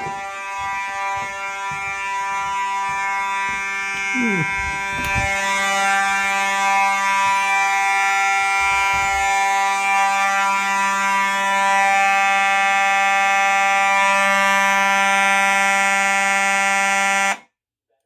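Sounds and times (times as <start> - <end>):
fire alarm horn buzzing: 0.0 - 17.5.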